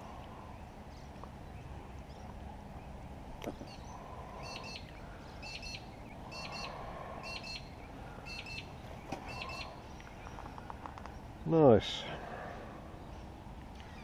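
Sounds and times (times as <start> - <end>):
low background noise: 0.0 - 14.0
bird chirping: 0.4 - 11.8, 12.9 - 14.0.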